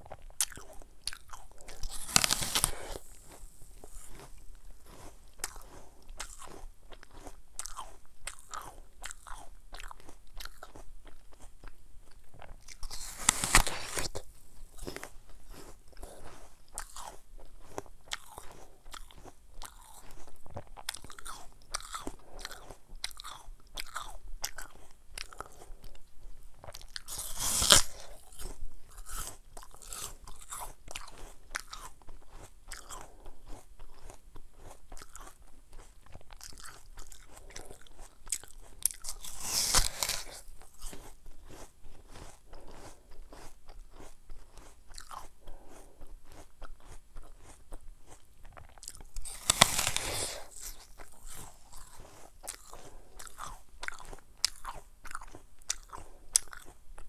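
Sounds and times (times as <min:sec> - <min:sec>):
apple crunching bites: 0:00.0 - 0:26.0, 0:26.6 - 0:57.0
wet crunchy chewing: 0:00.0 - 0:57.0.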